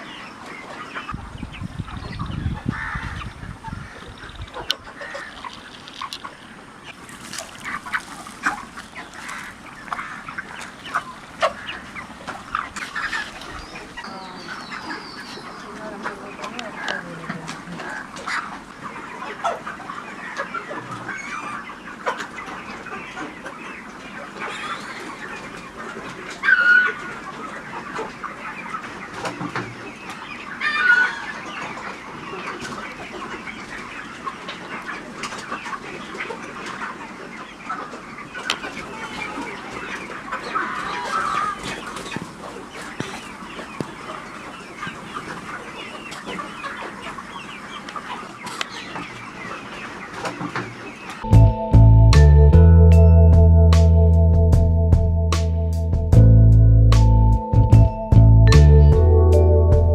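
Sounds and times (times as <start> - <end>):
chickens clucking and chirping: 0.0 - 56.3
loud chicken calls: 2.0 - 51.3.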